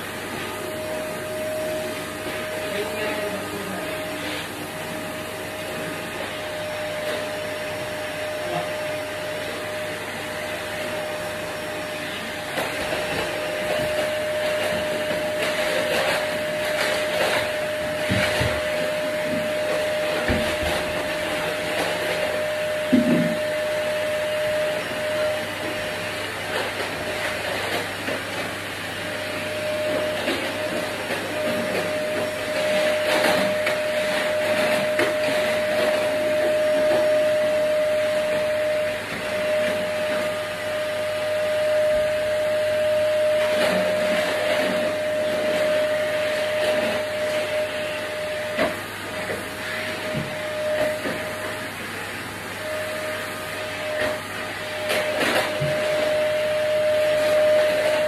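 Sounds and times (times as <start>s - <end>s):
vacuum cleaner whining: 0.0s - 58.0s.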